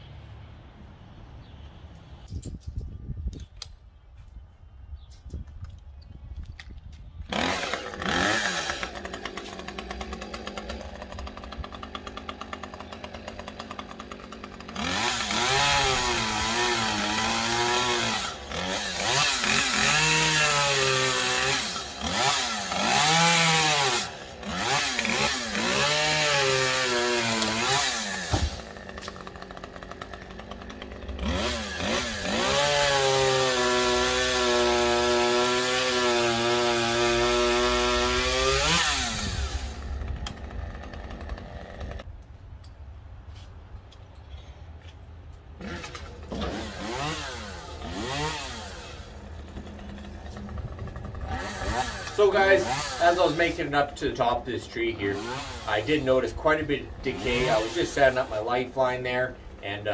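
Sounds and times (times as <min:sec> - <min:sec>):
chainsaw idling and revving: 0:07.3 - 0:42.1, 0:45.6 - 0:59.9.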